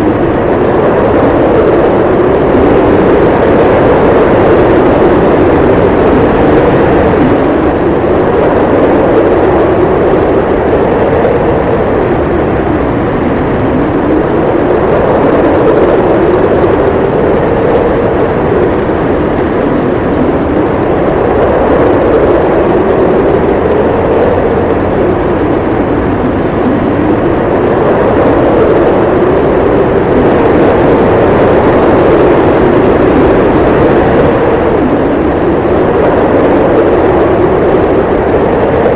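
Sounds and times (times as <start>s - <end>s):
howling blizzard wind: 0.0s - 38.9s.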